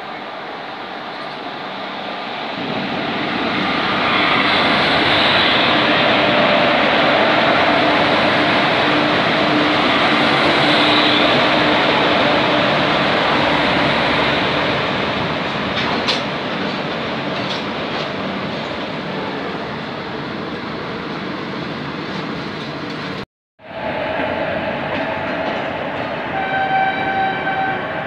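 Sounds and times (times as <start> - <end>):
freight train passing close: 0.0 - 28.0.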